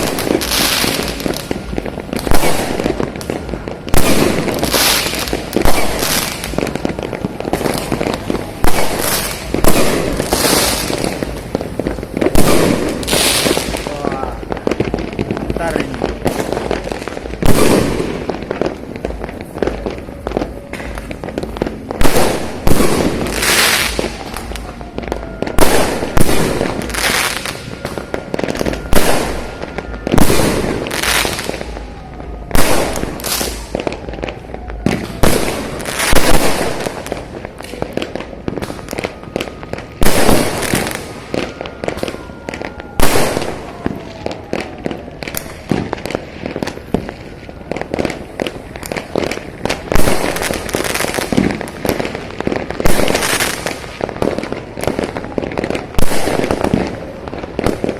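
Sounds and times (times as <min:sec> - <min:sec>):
fireworks banging: 0:00.0 - 0:57.9
fireworks crackling: 0:00.0 - 0:57.9.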